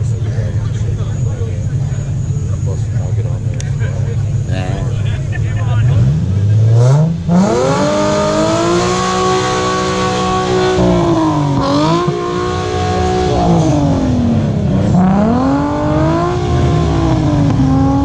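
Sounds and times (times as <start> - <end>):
sports car engine revving: 0.0 - 18.0.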